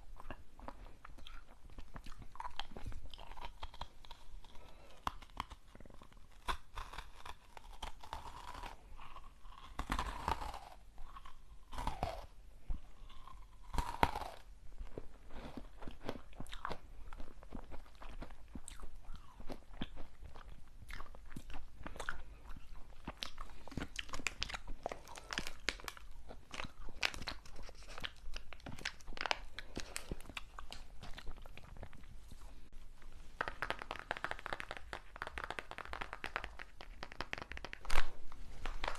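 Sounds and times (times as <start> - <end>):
crunching and chewing hard candy: 0.0 - 32.7, 33.4 - 38.9.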